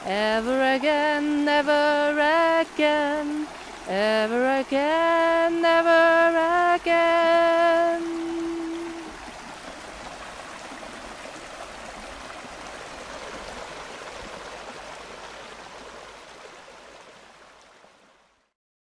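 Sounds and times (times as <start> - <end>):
waterfall over rocks: 0.0 - 18.5.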